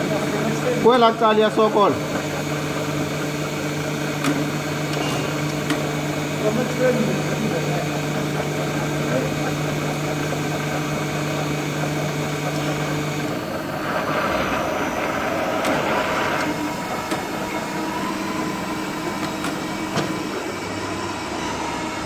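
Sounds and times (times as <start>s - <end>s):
drill press drilling metal: 0.0s - 22.0s.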